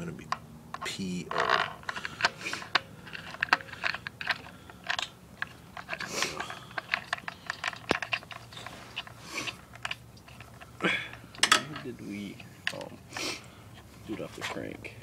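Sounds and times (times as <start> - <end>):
metal parts and tools clicking: 0.7 - 12.9.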